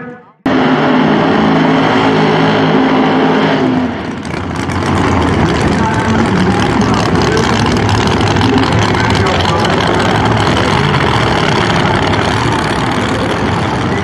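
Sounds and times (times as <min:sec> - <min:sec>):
drag car engine running loud: 0:00.0 - 0:14.0.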